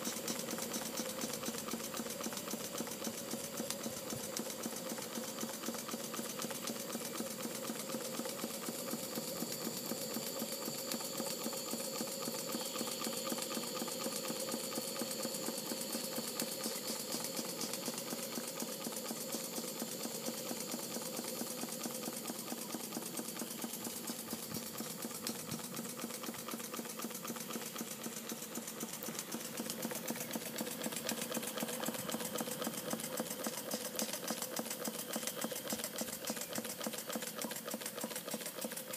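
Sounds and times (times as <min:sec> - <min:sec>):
steam engine running: 0:00.0 - 0:38.9.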